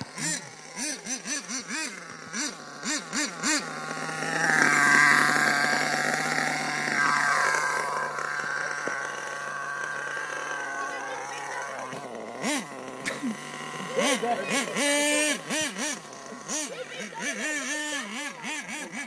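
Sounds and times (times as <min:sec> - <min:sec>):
high whir: 0:00.0 - 0:19.0
model engine revving and idling: 0:00.0 - 0:19.0.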